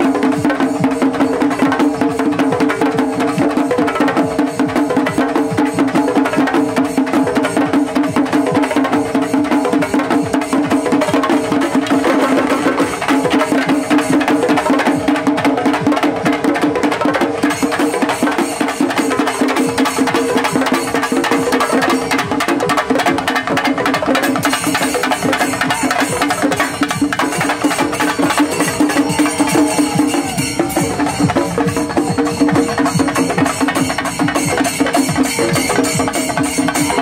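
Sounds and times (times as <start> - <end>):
fast dense drumming: 0.0 - 37.0.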